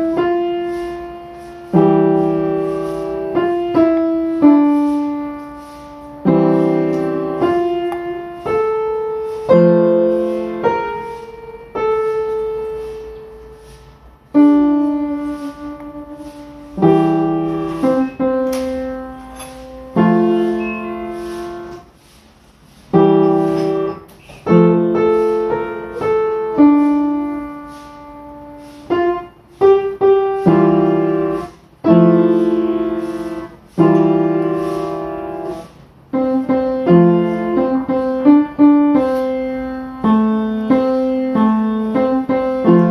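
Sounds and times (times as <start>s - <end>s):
slow piano chords: 0.0s - 42.9s.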